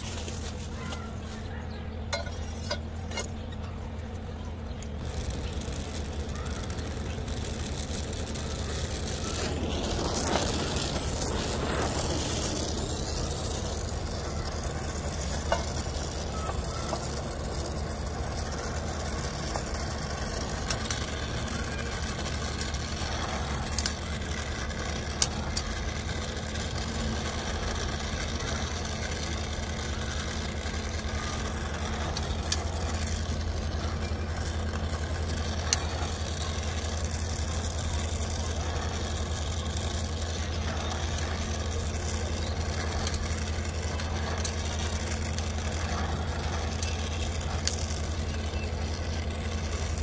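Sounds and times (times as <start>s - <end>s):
low machine hum: 0.0s - 50.0s.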